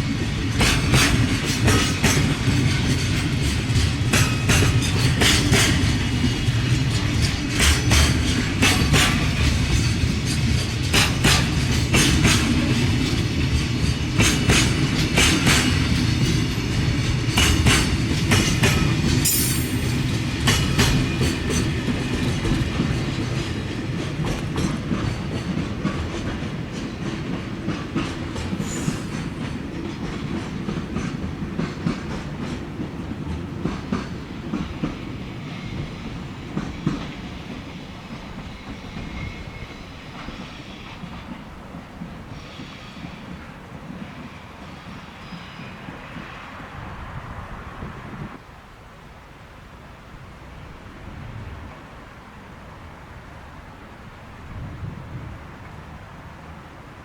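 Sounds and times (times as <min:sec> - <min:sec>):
train wheels clacking on rails: 0:00.0 - 0:48.3.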